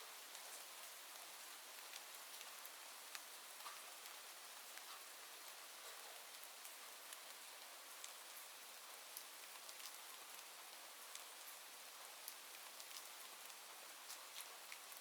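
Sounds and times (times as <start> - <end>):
soft rain hiss: 0.0 - 15.0.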